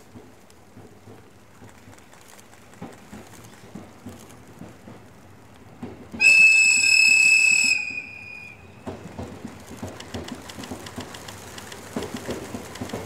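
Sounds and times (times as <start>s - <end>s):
train wheels clicking over rail joints: 0.0s - 13.0s.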